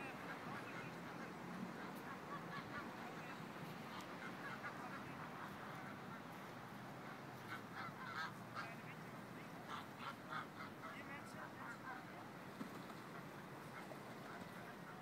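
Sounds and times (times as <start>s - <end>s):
geese honking: 0.0s - 12.2s.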